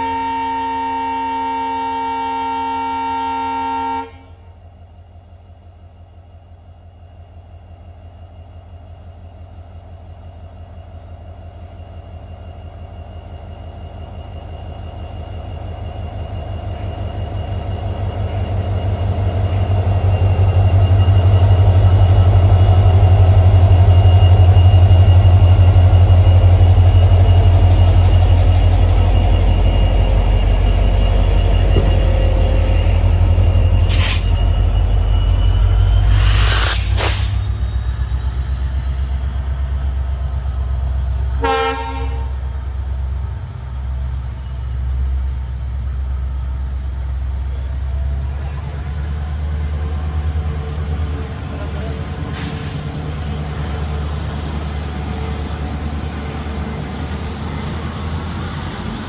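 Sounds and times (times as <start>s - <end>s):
diesel locomotive engine humming: 0.0s - 59.0s.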